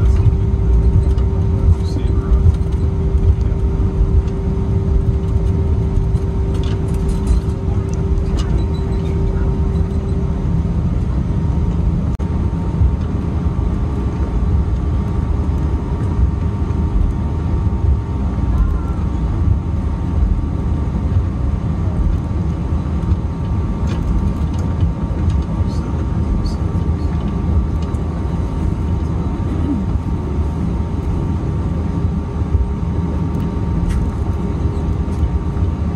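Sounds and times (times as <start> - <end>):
low rumble of engines and airflow: 0.0 - 35.9.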